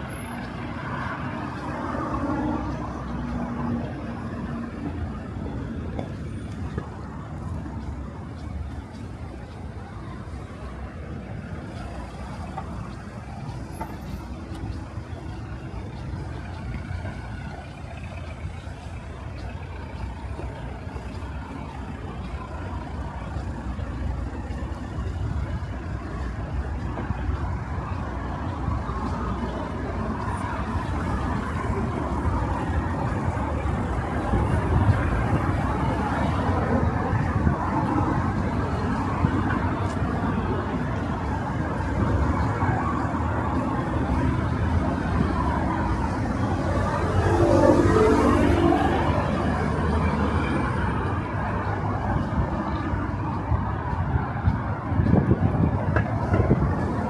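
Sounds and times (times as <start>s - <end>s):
motor vehicles passing: 0.0s - 57.0s.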